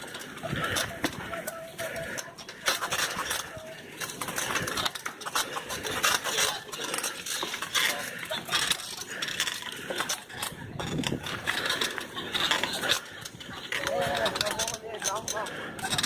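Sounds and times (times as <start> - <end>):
bicycle rattling over dirt: 0.0 - 16.0.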